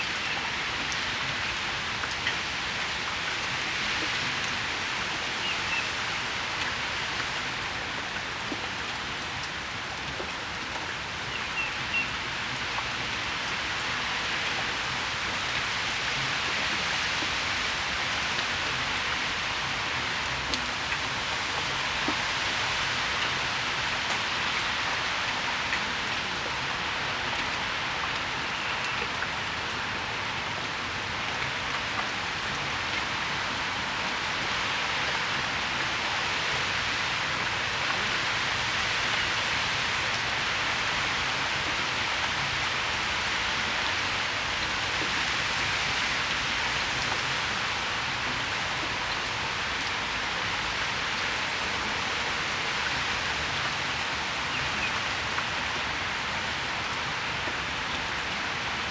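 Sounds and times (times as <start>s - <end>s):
rain hissing on a patio: 0.0s - 58.9s.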